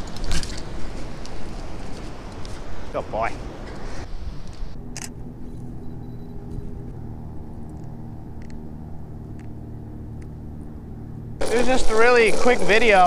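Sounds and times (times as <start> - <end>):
muffled vehicle engine rumble: 0.0 - 13.0.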